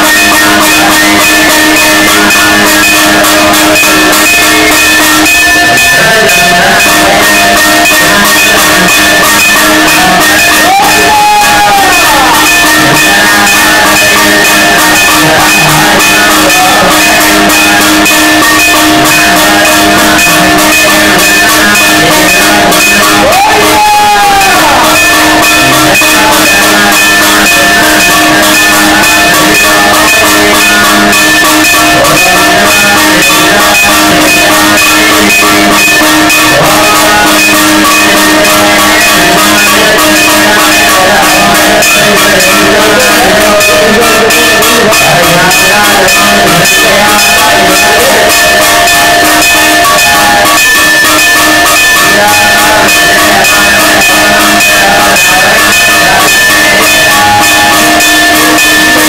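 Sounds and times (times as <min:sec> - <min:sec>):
fast steady drumming: 0:00.0 - 0:59.0
sustained held tones: 0:00.0 - 0:59.0.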